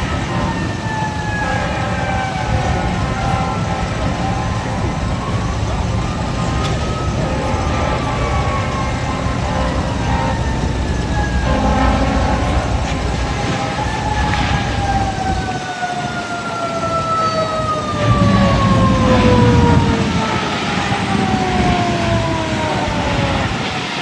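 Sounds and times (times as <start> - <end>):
fire engine siren: 0.0 - 24.0
low rumble of engines: 0.0 - 24.0
wind: 0.0 - 24.0.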